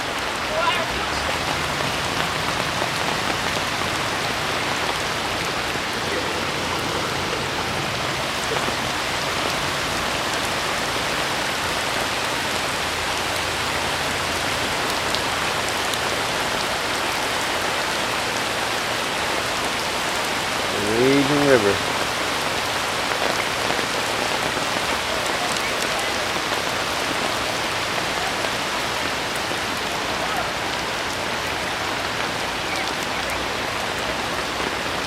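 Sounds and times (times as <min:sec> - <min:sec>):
heavy rain hissing: 0:00.0 - 0:35.0
raindrop ticks: 0:00.2 - 0:16.6, 0:21.3 - 0:35.0.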